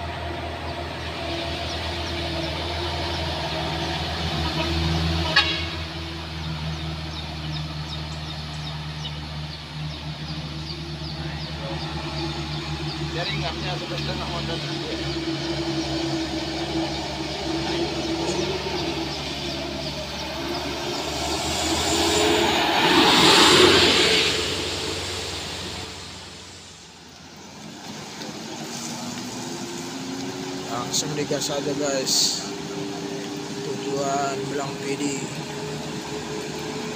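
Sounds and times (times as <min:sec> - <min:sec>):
diesel truck engines labouring: 0:00.0 - 0:36.9.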